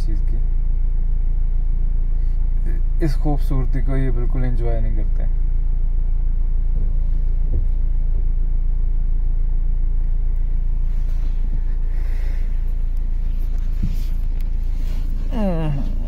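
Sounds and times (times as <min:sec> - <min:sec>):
car engine rumble inside cabin: 0:00.0 - 0:16.0.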